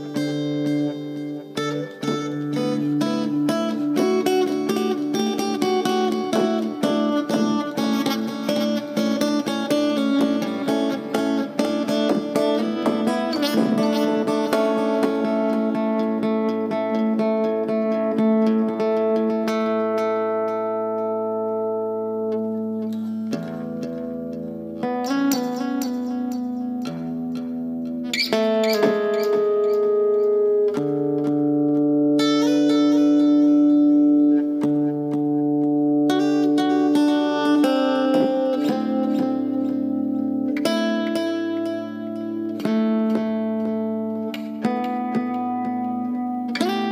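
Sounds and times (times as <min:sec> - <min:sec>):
acoustic guitar with delay: 0:00.0 - 0:46.9.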